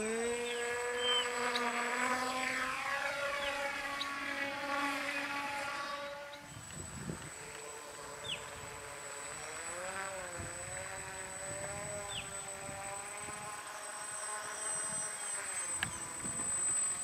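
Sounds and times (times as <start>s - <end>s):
model plane motor buzzing: 0.0s - 17.0s.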